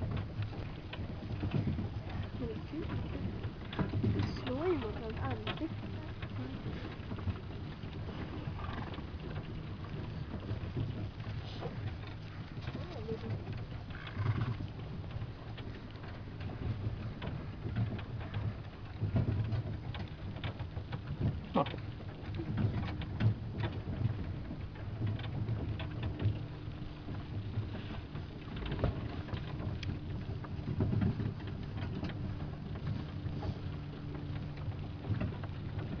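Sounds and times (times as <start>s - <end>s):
carriage wheels rumbling: 0.0s - 36.0s
small rattles and clicks: 0.0s - 36.0s.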